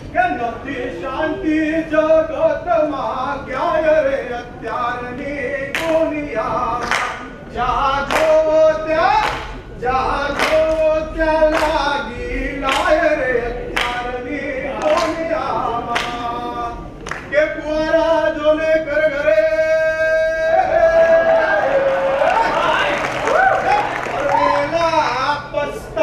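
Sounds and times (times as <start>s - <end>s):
group singing unaccompanied: 0.0s - 21.7s.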